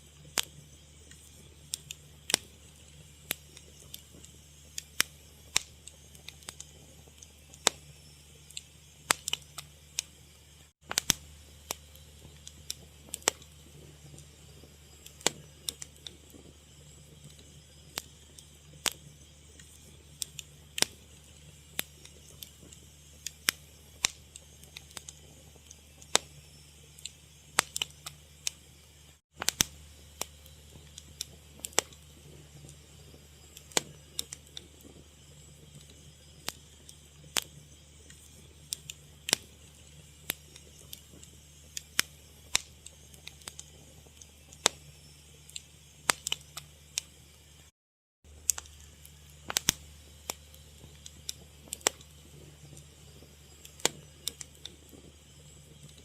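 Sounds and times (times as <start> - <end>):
fire crackling: 0.0 - 47.7, 48.3 - 56.0
steady low hum: 0.0 - 47.7, 48.3 - 56.0.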